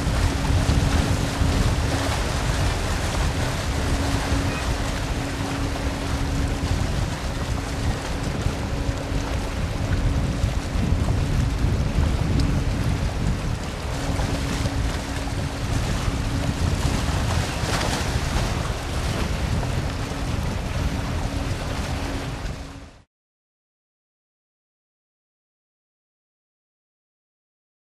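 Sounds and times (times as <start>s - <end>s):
jet engines roaring: 0.0s - 22.7s
wind buffeting microphone: 0.0s - 23.0s.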